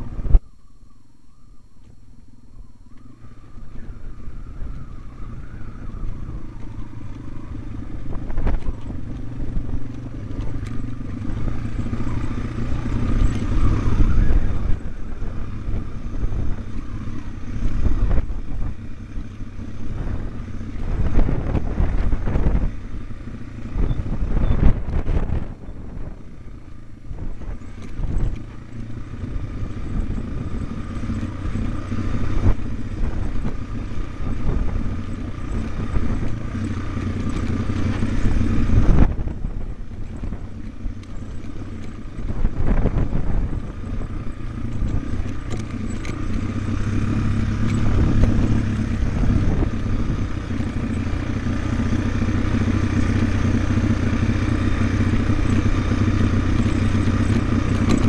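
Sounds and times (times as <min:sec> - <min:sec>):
motorcycle engine at low speed: 0:00.0 - 0:58.0.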